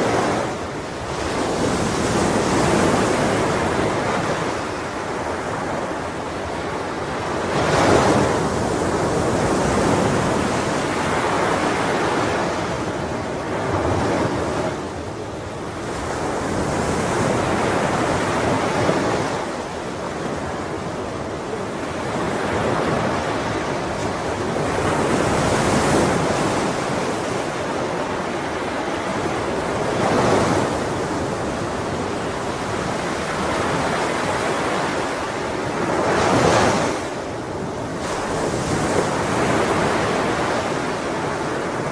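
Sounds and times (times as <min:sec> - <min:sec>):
waves breaking and washing in: 0:00.0 - 0:41.9.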